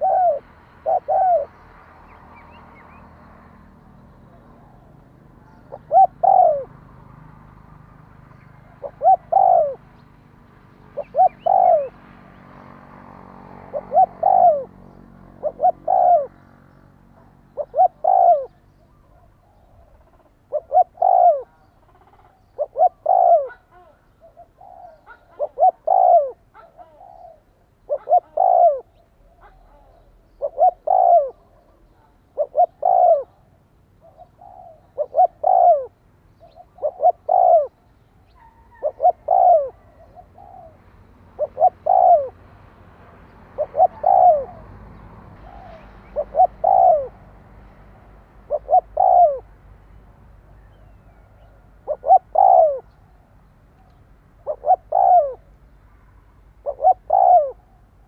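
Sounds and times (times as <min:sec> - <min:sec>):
dove cooing: 0:00.0 - 0:03.0, 0:03.7 - 0:10.1, 0:10.8 - 0:12.2, 0:13.4 - 0:42.5, 0:43.4 - 0:47.2, 0:48.4 - 0:49.5, 0:50.5 - 0:53.2, 0:53.8 - 0:55.5, 0:56.6 - 0:58.0.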